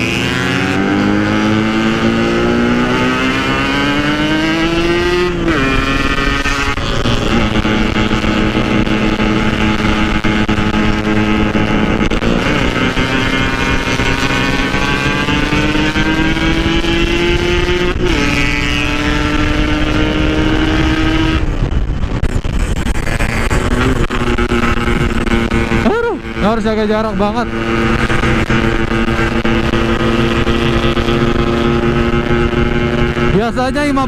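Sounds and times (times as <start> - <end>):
two-stroke motorcycle engine accelerating: 0.0 - 34.0.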